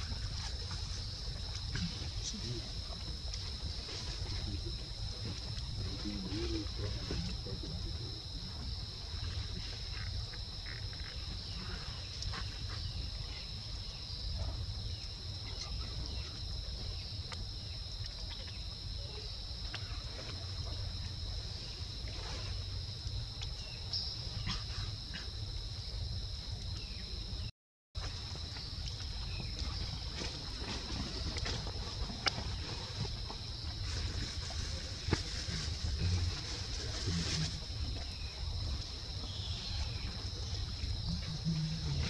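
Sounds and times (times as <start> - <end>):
high insect drone: 0.0 - 42.0.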